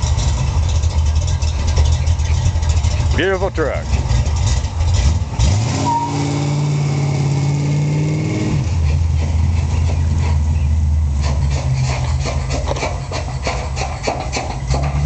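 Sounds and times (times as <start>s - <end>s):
pickup engine revving: 0.0s - 15.0s.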